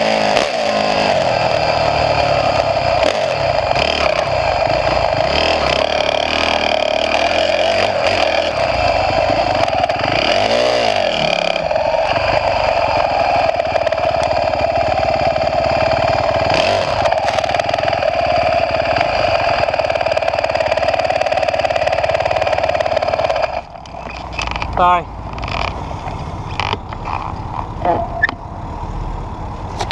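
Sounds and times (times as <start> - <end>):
motor engine running: 0.0 - 29.9.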